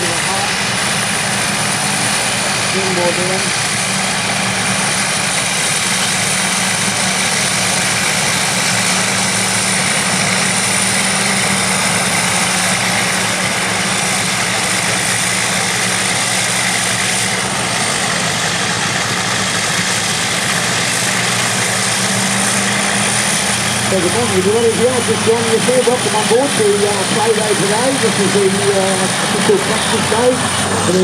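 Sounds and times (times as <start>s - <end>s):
heavy machinery engines droning: 0.0s - 31.0s.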